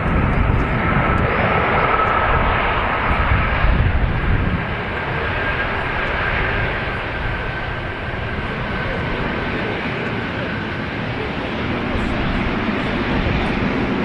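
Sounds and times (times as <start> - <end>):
airliner engines roaring: 0.0 - 14.0.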